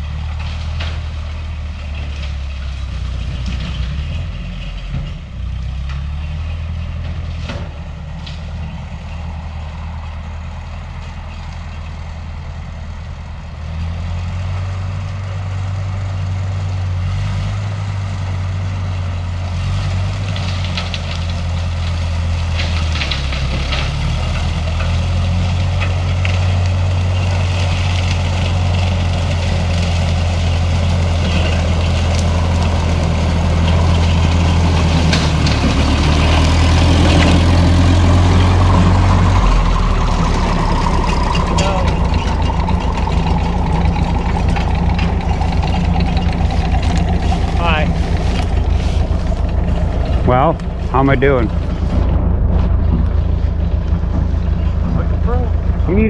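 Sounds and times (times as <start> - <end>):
tractor engine running: 0.0 - 56.0
rattling and clattering: 0.2 - 12.2, 20.0 - 56.0.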